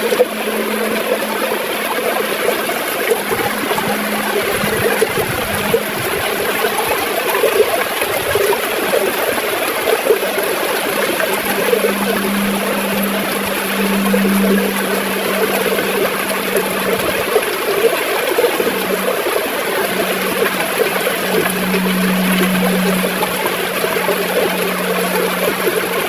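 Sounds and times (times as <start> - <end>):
river water gurgling: 0.0 - 26.0
faint low hum: 2.7 - 26.0.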